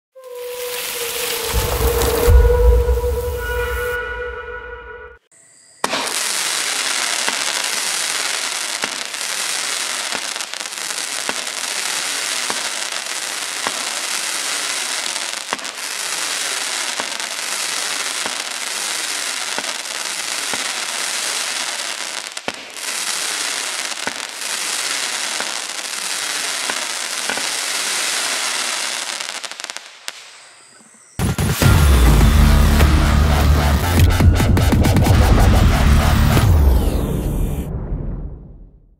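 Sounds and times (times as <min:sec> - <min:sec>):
firework barrage crackling: 0:00.2 - 0:04.6, 0:05.8 - 0:38.9.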